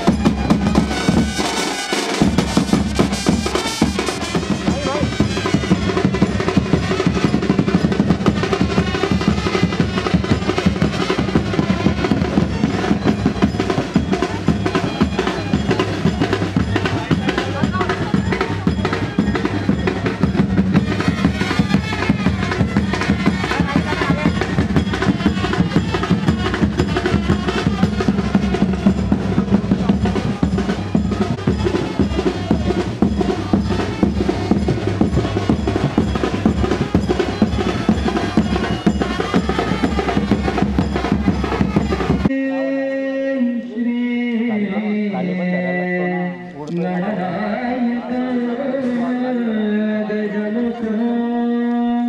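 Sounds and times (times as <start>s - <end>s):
fast loud drumming with rolls: 0.0s - 42.3s.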